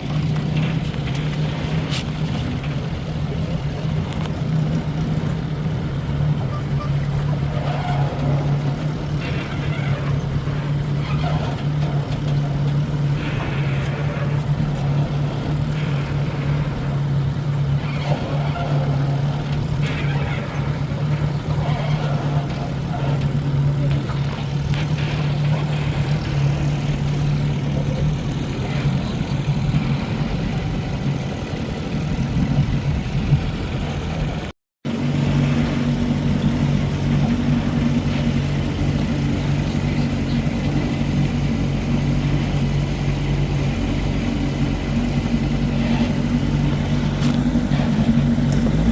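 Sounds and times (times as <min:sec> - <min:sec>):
outboard motor running: 0:00.0 - 0:48.9
water noise: 0:00.0 - 0:48.9
wind: 0:00.0 - 0:48.9.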